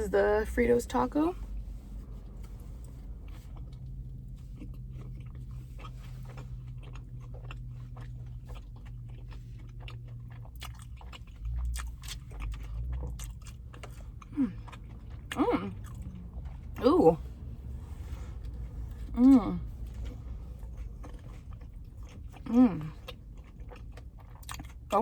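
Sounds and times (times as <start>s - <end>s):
low engine hum: 0.0s - 25.0s
biting and chewing crunchy food: 1.4s - 25.0s.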